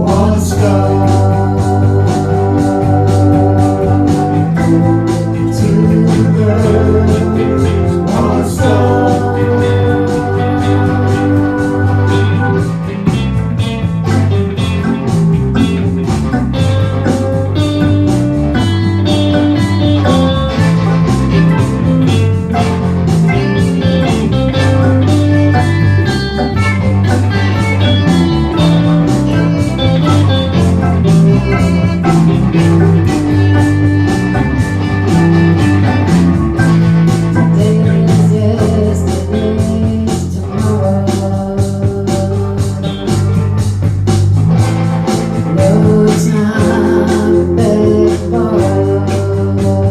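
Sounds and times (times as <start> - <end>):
blues-rock band playing: 0.0 - 49.9.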